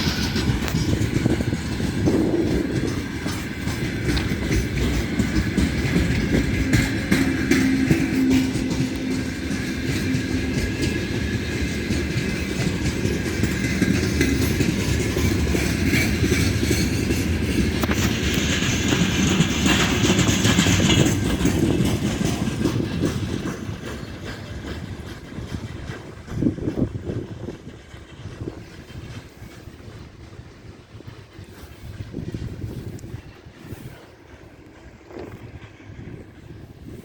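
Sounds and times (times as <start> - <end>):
train wheels clattering over rail joints: 0.0 - 37.0.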